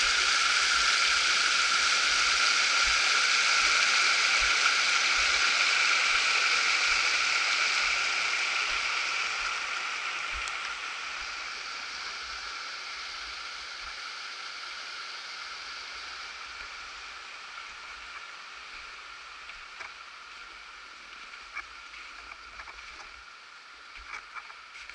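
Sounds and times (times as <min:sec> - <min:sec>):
running water rushing: 0:00.0 - 0:24.9.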